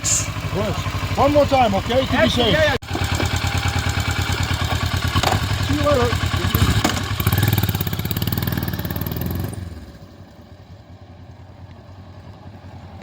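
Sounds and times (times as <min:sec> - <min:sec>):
motorcycle engine pulling away: 0:00.0 - 0:13.0.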